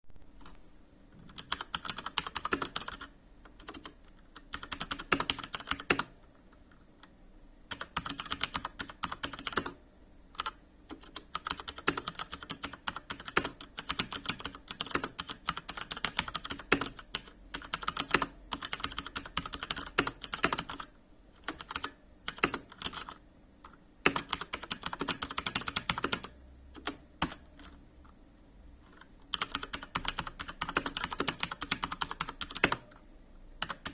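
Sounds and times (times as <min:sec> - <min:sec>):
mechanical keyboard typing: 0:01.2 - 0:06.2, 0:07.7 - 0:09.8, 0:10.4 - 0:27.8, 0:28.8 - 0:33.0, 0:33.6 - 0:33.9.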